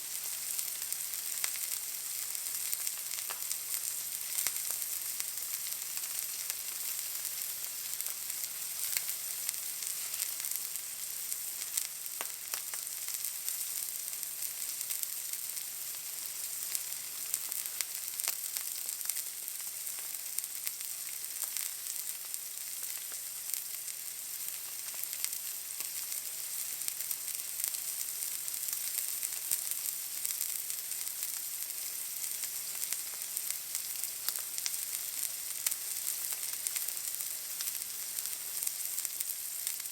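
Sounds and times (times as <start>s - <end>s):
steak sizzling in a pan: 0.0s - 39.9s.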